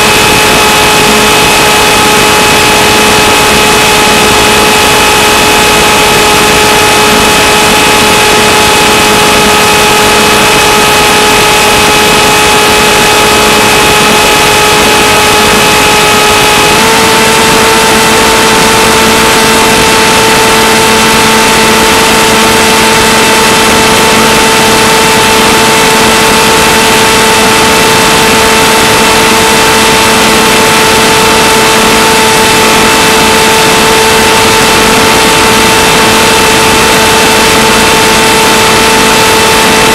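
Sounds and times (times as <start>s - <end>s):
electric motor propeller whine: 0.0s - 39.9s.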